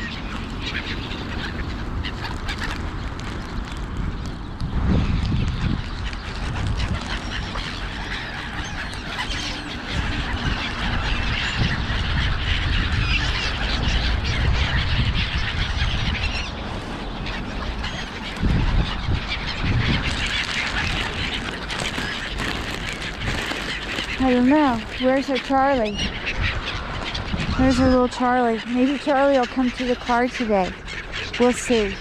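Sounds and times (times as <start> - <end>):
gulls squawking: 0.0 - 3.8, 5.5 - 32.0.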